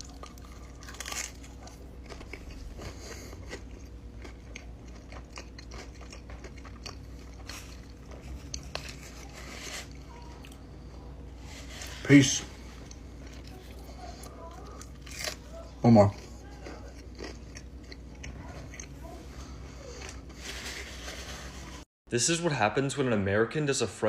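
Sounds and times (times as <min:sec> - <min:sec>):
person chewing crunchy food: 0:00.0 - 0:21.8.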